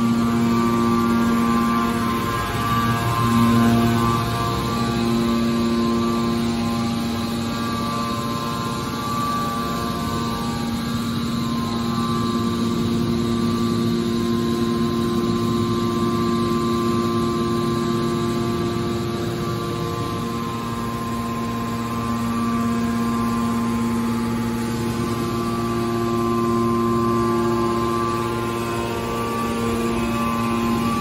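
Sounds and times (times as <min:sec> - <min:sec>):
hydraulic pump motor humming: 0:00.0 - 0:31.0.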